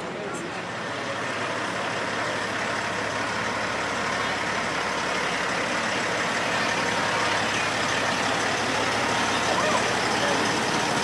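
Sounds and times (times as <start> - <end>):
diesel truck driving past: 0.0 - 11.0.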